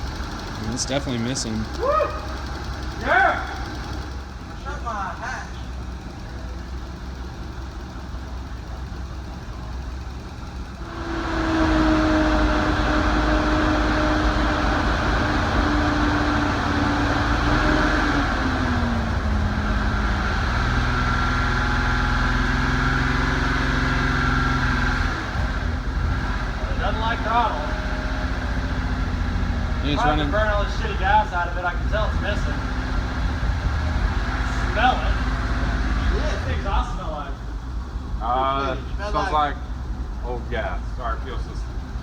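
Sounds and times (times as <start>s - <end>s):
car engine misfiring: 0.0s - 42.0s.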